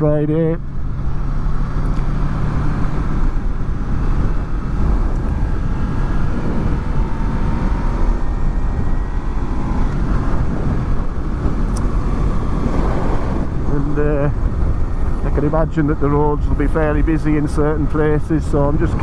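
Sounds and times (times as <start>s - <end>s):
motorcycle engine running: 0.0s - 19.0s
road noise: 0.0s - 19.0s
wind noise: 0.0s - 19.0s.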